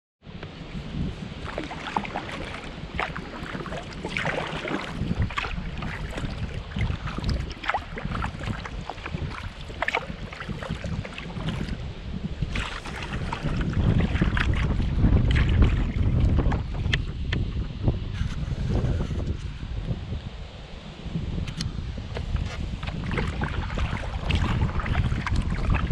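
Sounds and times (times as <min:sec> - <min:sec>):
wind rumbling on microphone: 0:00.2 - 0:25.9
paddle strokes splashing water: 0:00.3 - 0:17.4, 0:21.5 - 0:25.9.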